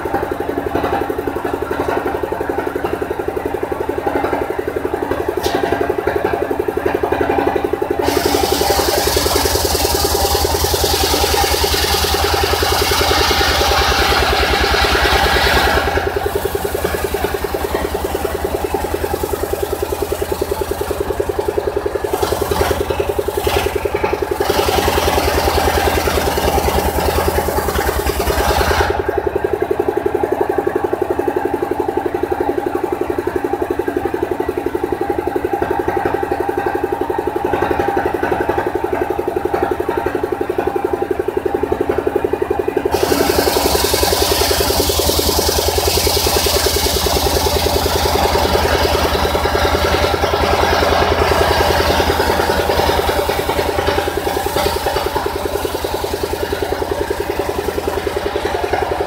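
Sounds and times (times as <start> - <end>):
engine running with even pulse: 0.0 - 59.0.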